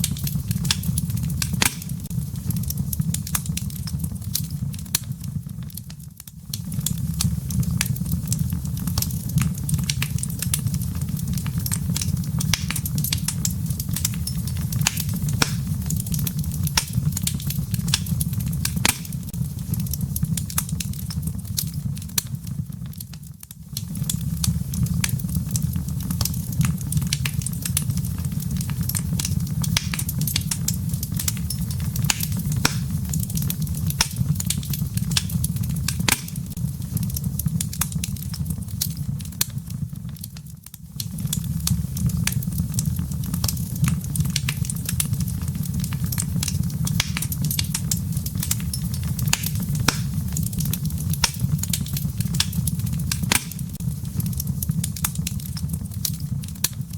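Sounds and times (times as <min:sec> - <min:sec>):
low fire rumble: 0:00.0 - 0:56.9
wood fire crackling and popping: 0:00.0 - 0:56.9.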